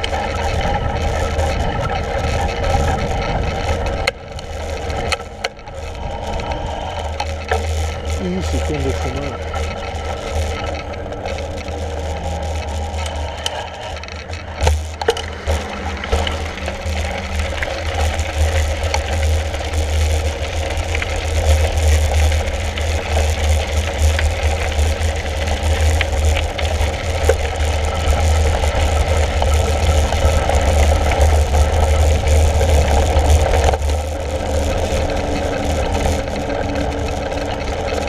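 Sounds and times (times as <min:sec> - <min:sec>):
bicycle tyre noise: 0:00.0 - 0:38.0
bike rattling over rough ground: 0:00.0 - 0:38.0.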